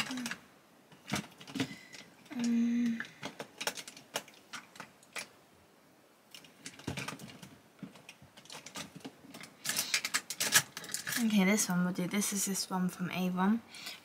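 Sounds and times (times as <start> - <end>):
makeup brushes clicking and clattering: 0.0 - 5.4, 6.3 - 12.2.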